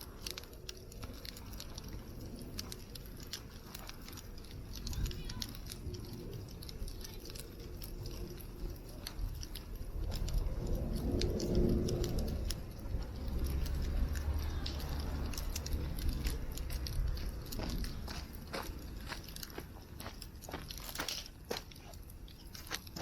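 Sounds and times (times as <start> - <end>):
campfire crackling: 0.0 - 23.0
low fire rumble: 0.0 - 23.0.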